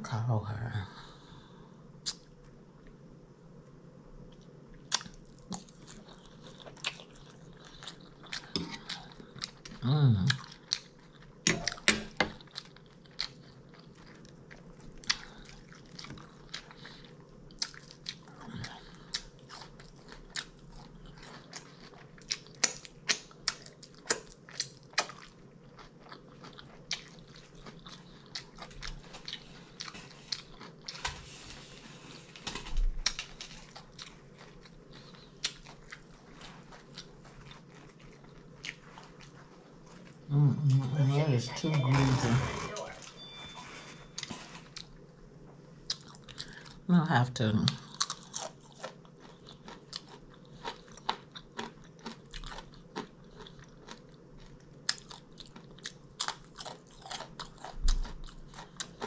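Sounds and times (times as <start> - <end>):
food crunching: 4.3 - 40.9, 45.8 - 46.8, 47.7 - 59.0
person chewing food: 4.3 - 46.9, 47.7 - 59.0.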